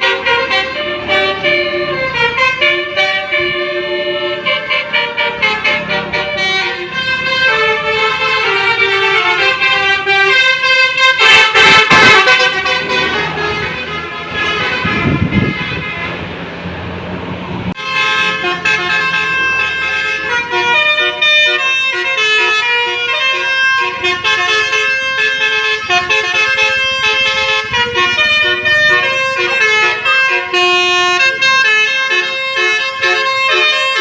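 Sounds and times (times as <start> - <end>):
bus musical air horns: 0.0 - 16.5, 17.7 - 34.0.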